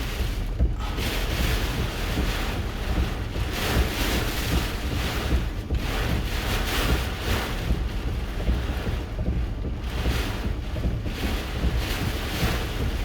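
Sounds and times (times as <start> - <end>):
strong wind gusting against vehicle: 0.0 - 13.0
wind rumble on microphone: 0.0 - 13.0.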